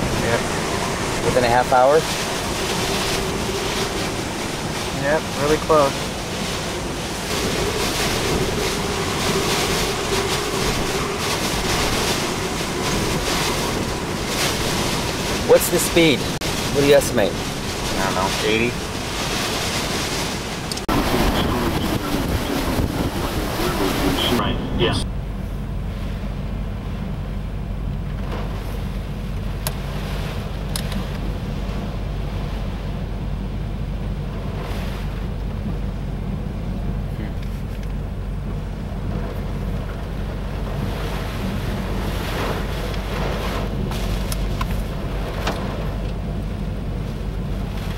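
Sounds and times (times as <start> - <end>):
driving rain: 0.0 - 47.9
hurricane wind roaring: 0.0 - 47.9
wind buffeting microphone: 0.0 - 47.9.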